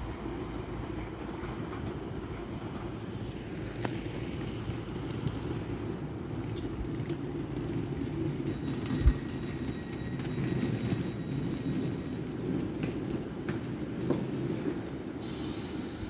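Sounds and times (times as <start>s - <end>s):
diesel train engine rumbling: 0.0s - 16.0s.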